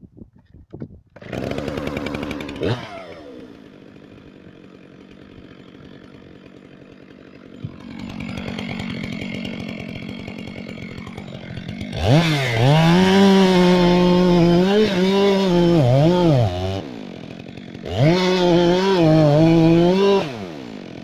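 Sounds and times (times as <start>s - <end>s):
chainsaw revving and idling: 1.2s - 21.0s.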